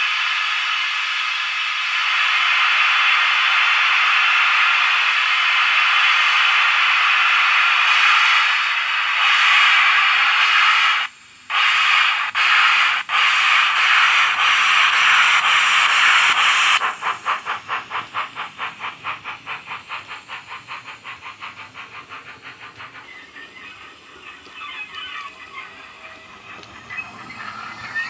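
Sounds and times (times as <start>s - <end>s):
steam hiss from small speaker: 0.0s - 28.0s
steam locomotive exhaust chuffs: 0.0s - 28.0s.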